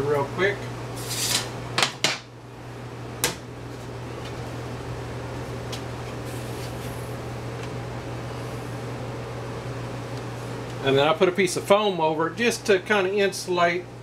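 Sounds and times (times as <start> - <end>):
machine hum with low drone: 0.0 - 14.0.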